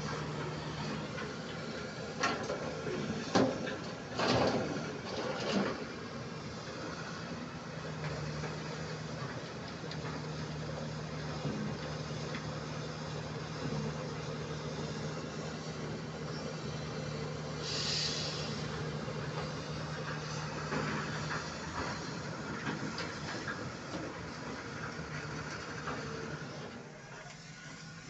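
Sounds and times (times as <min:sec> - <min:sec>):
excavator diesel engine: 0:00.0 - 0:28.0.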